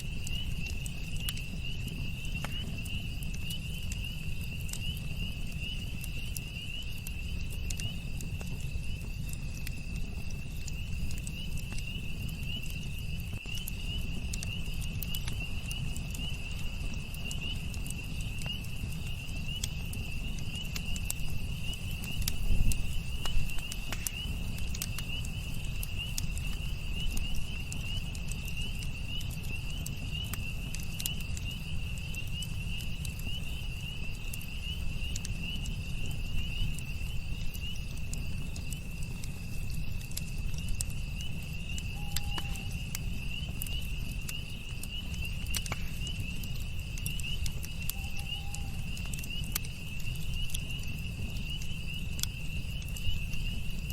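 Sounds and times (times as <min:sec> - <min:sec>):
campfire crackling and popping: 0:00.0 - 0:53.9
crickets trilling: 0:00.0 - 0:53.9.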